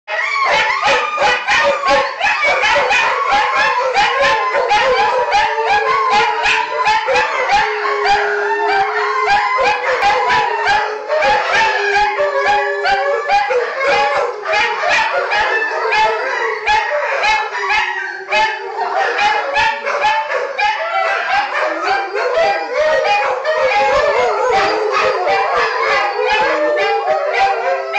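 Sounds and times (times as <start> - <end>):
dog yips: 0.1 - 27.9
dogs howling in chorus: 0.1 - 27.9
low held dog howl: 0.1 - 27.9.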